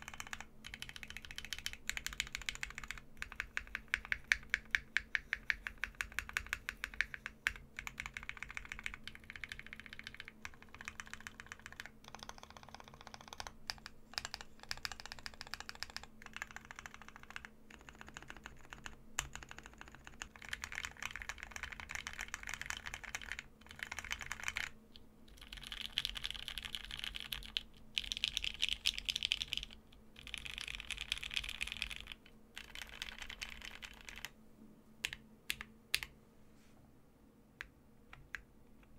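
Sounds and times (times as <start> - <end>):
clacky mechanical keyboard typing: 0.0 - 34.3.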